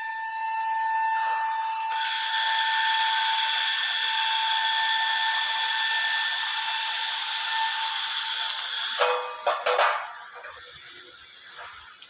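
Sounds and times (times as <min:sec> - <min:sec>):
machine constant tone: 0:00.0 - 0:12.0.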